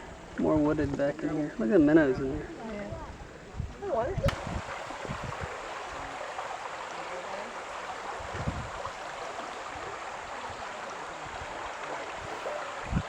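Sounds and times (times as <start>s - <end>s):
water rushing at shore: 0.0s - 13.0s.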